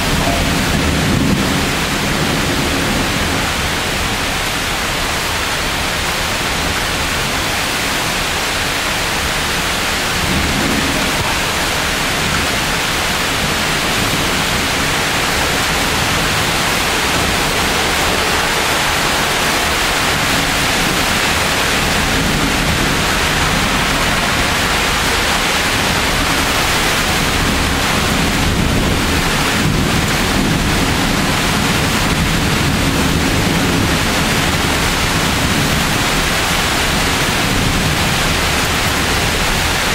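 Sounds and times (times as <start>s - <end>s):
low thunder rumbling: 0.0s - 4.3s, 9.2s - 39.9s
heavy rain hissing: 0.0s - 39.9s.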